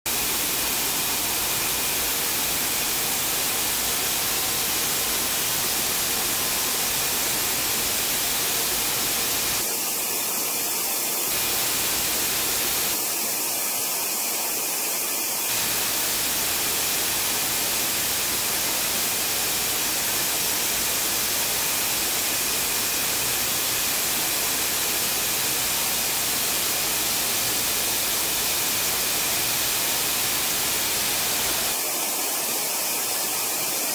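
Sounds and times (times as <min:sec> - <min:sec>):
loud machinery hiss: 0:00.1 - 0:33.9.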